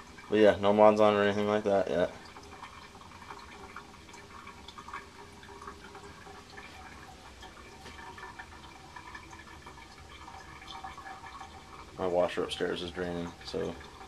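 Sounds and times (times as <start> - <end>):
drain water running down drainpipe: 0.0 - 14.0.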